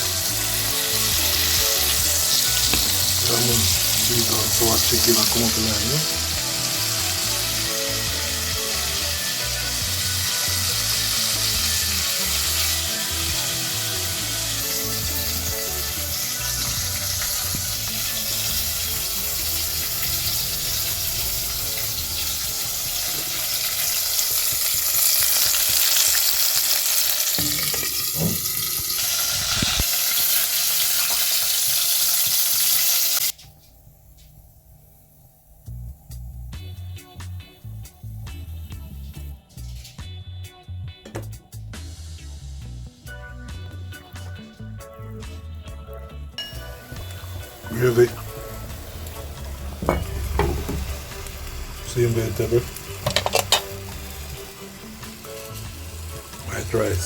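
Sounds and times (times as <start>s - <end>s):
chicken sizzling in a pot: 0.0s - 57.0s.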